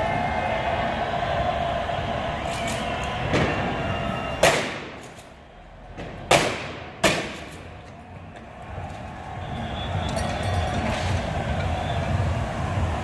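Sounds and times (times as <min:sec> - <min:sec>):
street din: 0:00.0 - 0:13.0
firecrackers banging: 0:01.6 - 0:13.0.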